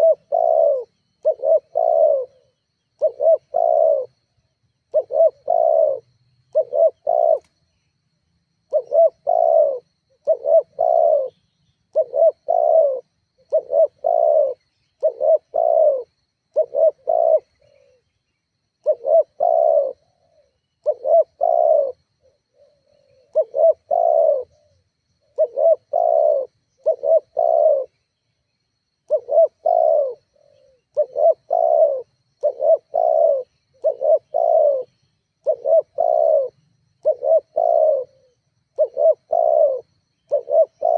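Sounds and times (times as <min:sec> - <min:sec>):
dove cooing: 0:00.0 - 0:04.3, 0:04.9 - 0:07.6, 0:08.7 - 0:18.1, 0:18.8 - 0:28.0, 0:29.0 - 0:40.9.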